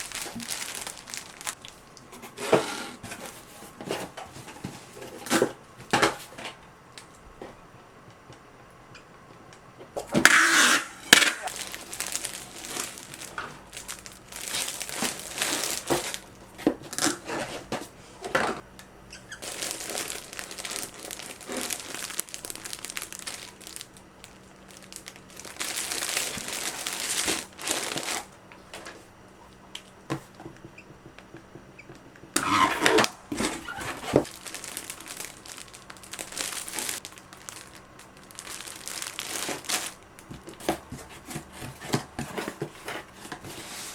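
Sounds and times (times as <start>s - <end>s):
material crinkling and rustling: 0.0s - 6.5s, 9.6s - 43.9s.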